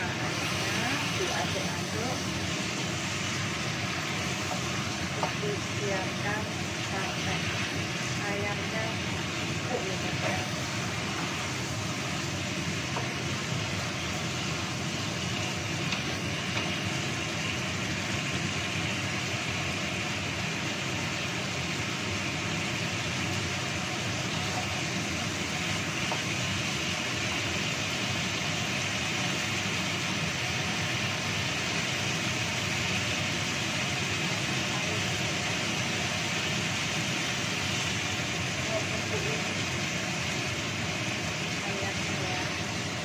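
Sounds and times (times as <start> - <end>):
chicken sizzling in a wok: 0.0 - 43.0.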